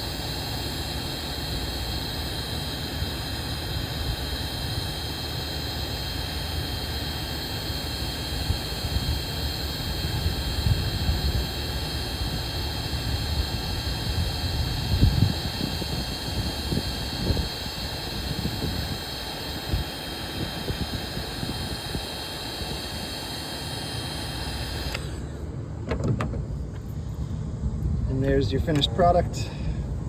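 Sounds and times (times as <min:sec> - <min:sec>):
heat gun blowing with whine: 0:00.0 - 0:25.6.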